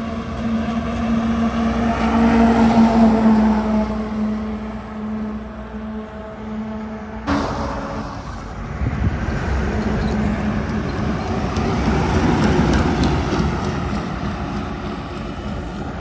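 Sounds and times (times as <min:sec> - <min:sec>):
heavy truck passing: 0:00.0 - 0:16.0.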